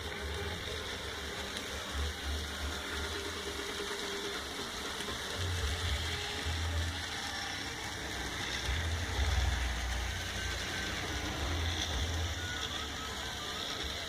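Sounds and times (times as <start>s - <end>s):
model train motor whir: 0.0s - 14.0s
wheel and track noise: 0.0s - 14.0s.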